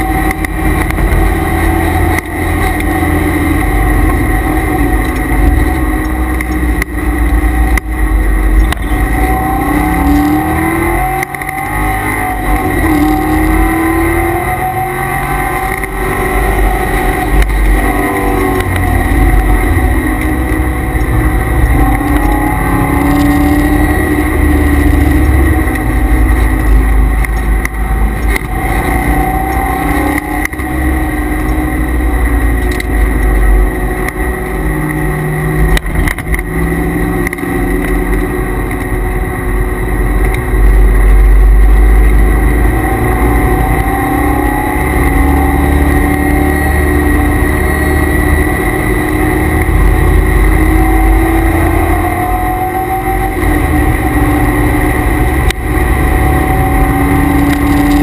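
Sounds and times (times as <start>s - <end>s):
car engine revving: 0.0s - 58.0s
transmission cooler whine: 0.0s - 58.0s.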